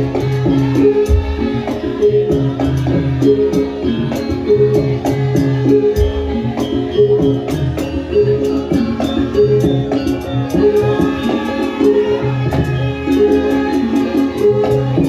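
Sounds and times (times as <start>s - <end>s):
drum strokes: 0.0s - 15.0s
tuned metal percussion melody: 0.0s - 15.0s.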